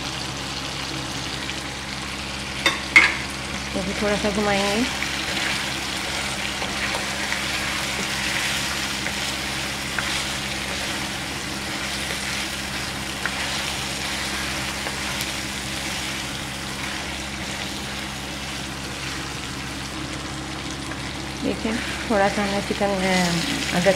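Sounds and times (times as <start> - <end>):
chicken sizzling in hot oil: 0.0 - 23.9.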